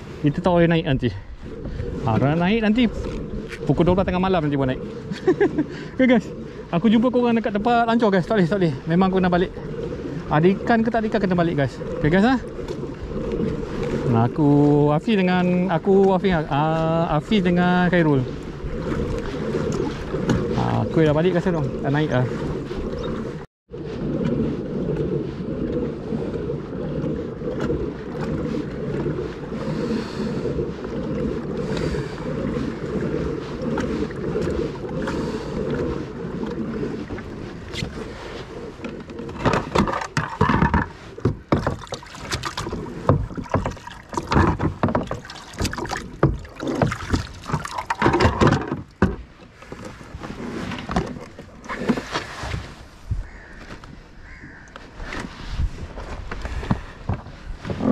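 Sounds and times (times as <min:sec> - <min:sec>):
knocks and clatters on kayak: 0:06.8 - 0:23.4, 0:24.0 - 0:57.9.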